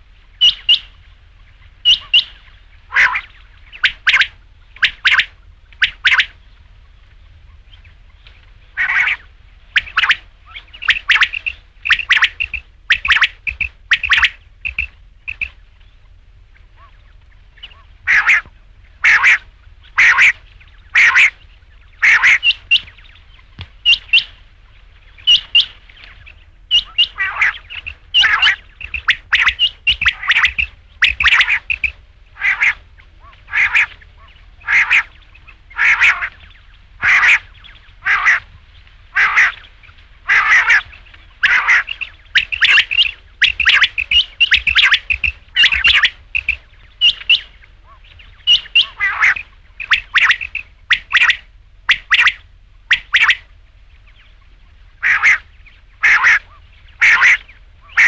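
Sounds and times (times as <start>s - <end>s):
faint low hum: 0.0s - 58.0s
quail calling harshly: 0.4s - 1.0s, 1.6s - 8.1s, 8.7s - 15.6s, 16.6s - 24.5s, 25.1s - 53.6s, 55.0s - 58.0s.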